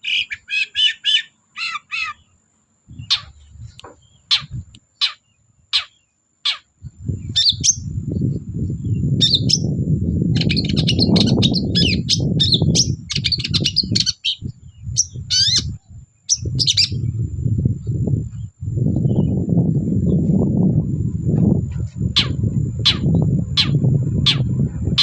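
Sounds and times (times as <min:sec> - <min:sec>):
shrike singing chirps: 0:00.0 - 0:25.0
rough low rumbling noise: 0:02.8 - 0:04.8, 0:06.8 - 0:25.0.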